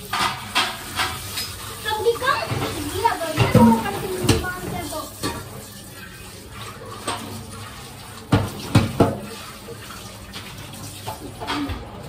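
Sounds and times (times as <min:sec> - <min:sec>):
steel utensils clinking in sink: 0:00.0 - 0:12.0.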